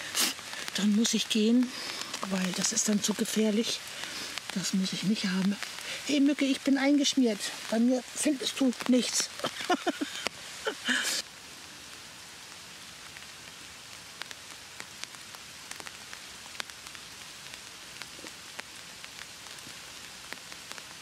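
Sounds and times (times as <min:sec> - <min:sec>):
raindrops ticking close by: 0:00.0 - 0:21.0
steady rain hissing: 0:00.0 - 0:21.0.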